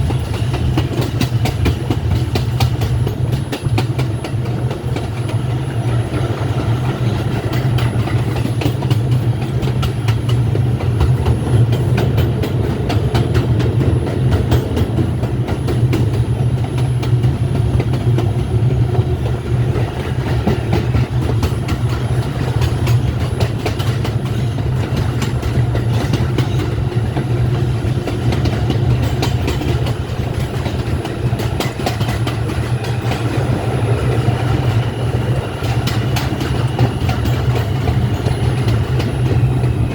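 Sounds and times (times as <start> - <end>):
subway train wheels rumbling: 0.0 - 39.9
track clicking and clatter: 0.0 - 39.9.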